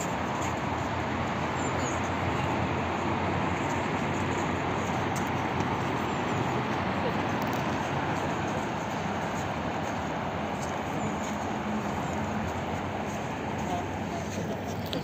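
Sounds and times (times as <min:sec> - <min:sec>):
people's voices: 0:00.0 - 0:15.0
road traffic: 0:00.0 - 0:15.0.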